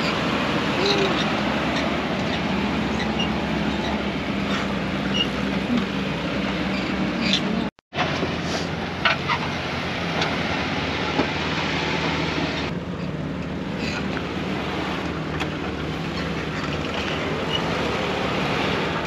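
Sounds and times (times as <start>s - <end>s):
engine running at low speed: 0.0s - 19.0s.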